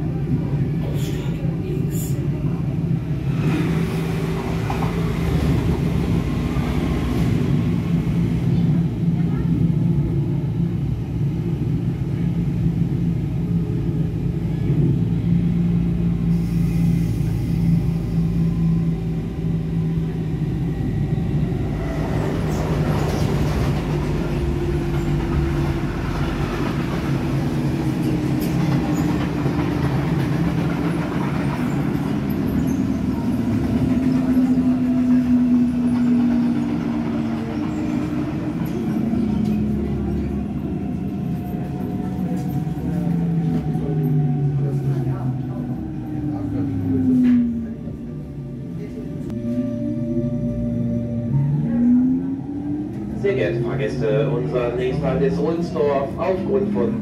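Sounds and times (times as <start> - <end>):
low train hum: 0.0 - 57.0.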